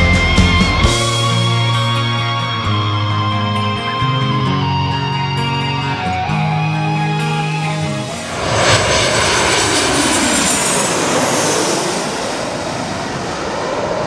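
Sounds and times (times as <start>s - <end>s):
airplane flying over: 0.0s - 14.0s.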